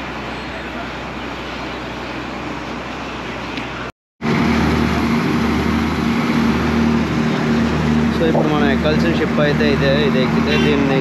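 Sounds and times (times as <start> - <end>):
ferry engine humming: 0.0 - 11.0
steady outdoor noise: 0.0 - 11.0.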